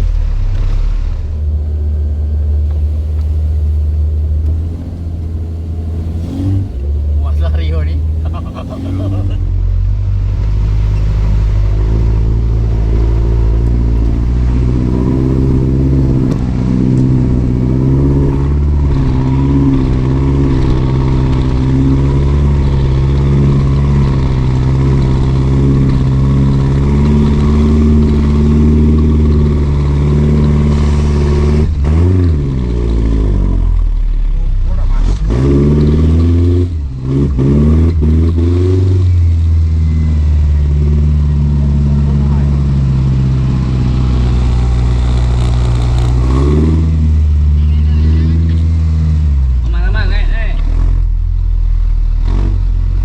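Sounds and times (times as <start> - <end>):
off-road vehicle engine under load: 0.0 - 53.0.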